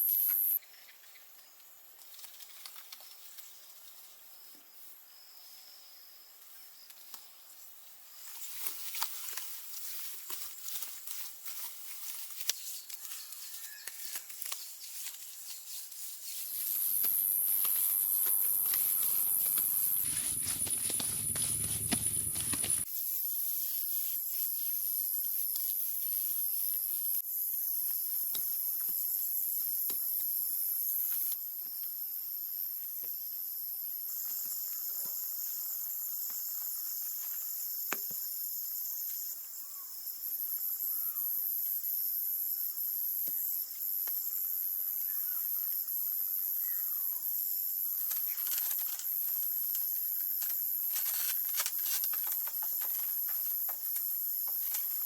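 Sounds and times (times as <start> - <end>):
insects chirping chorus: 0.0 - 29.6, 30.3 - 55.0.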